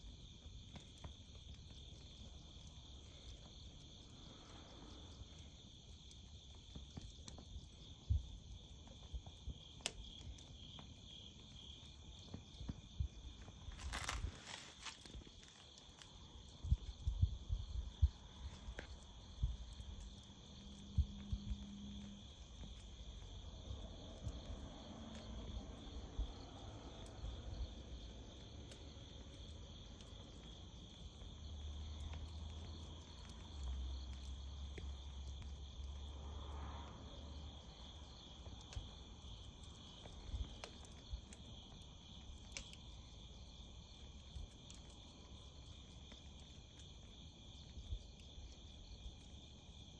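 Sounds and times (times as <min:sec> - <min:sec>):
crickets trilling: 0:00.0 - 0:49.9.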